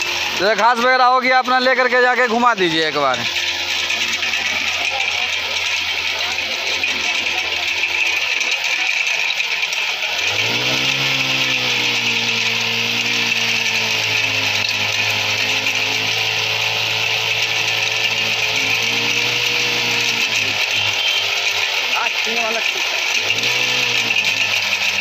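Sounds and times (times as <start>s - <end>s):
brush cutter engine revving: 0.0s - 25.0s
tines churning soil: 0.0s - 25.0s.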